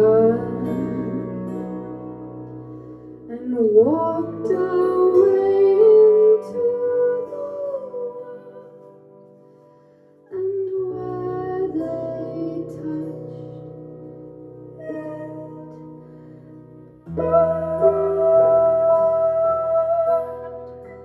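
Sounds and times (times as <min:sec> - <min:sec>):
person singing wordless melody: 0:00.0 - 0:02.6, 0:03.3 - 0:09.2, 0:10.3 - 0:16.2, 0:17.1 - 0:21.0
plucked string chords: 0:00.0 - 0:21.0.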